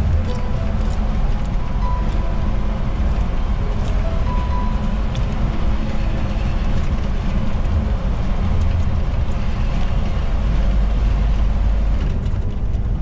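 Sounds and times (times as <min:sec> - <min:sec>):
truck engine and tyre noise: 0:00.0 - 0:13.0.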